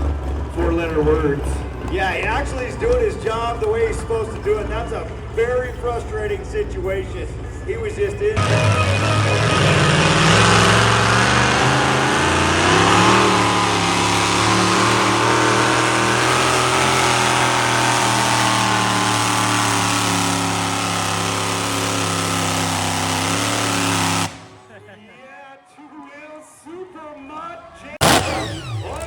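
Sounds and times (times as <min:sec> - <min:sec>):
vehicle engine at high revs: 0:00.0 - 0:24.6, 0:28.0 - 0:29.0.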